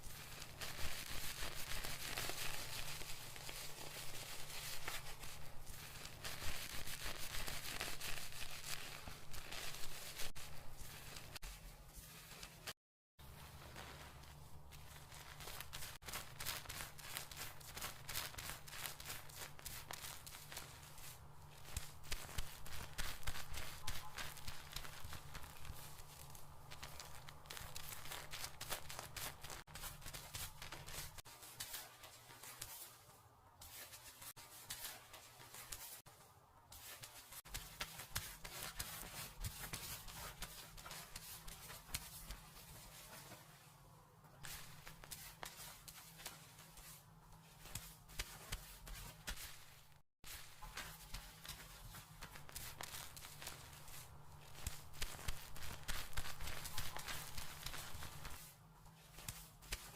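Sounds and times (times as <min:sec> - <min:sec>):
hands scrubbing hair: 0:00.0 - 0:36.1, 0:36.8 - 0:43.8, 0:44.4 - 0:59.9.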